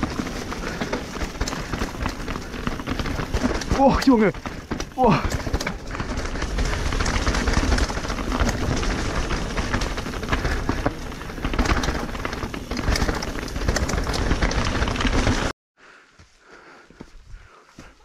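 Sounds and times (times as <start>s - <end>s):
bike knocks and rattles: 0.0s - 15.5s.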